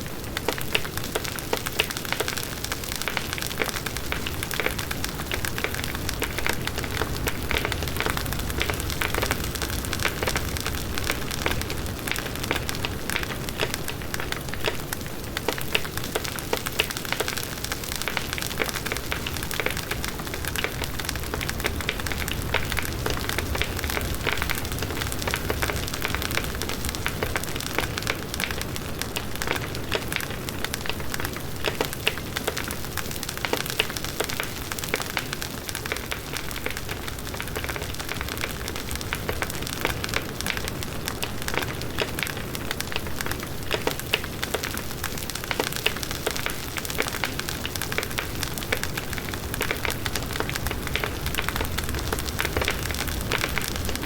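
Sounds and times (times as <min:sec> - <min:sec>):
burning wood crackling and popping: 0:00.0 - 0:54.0
wind: 0:00.0 - 0:54.0.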